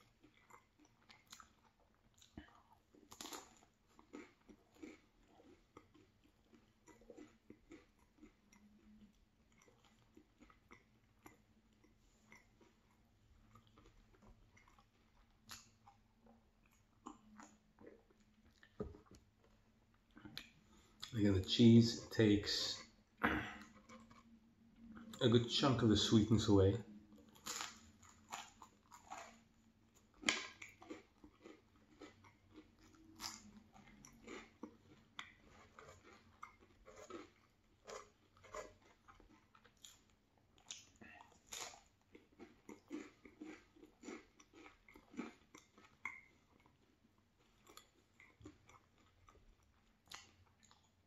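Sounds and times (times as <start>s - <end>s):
person chewing: 0.0s - 25.6s, 27.1s - 51.0s.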